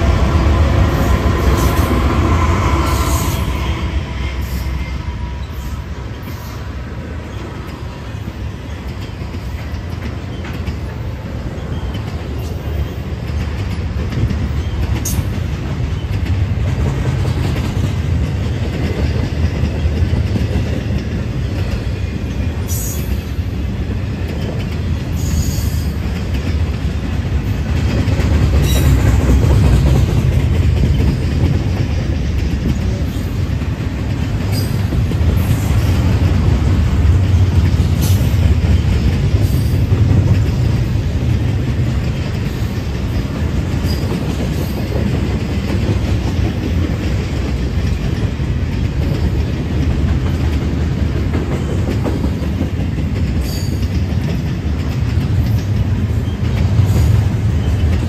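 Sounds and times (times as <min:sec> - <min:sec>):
train low rumble: 0:00.0 - 0:58.0
train wheels clacking: 0:00.0 - 0:58.0.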